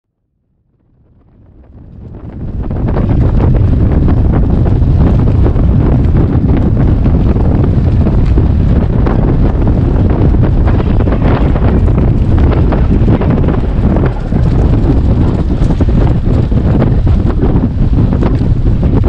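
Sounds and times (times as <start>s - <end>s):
wind buffeting microphone: 0.4s - 19.0s.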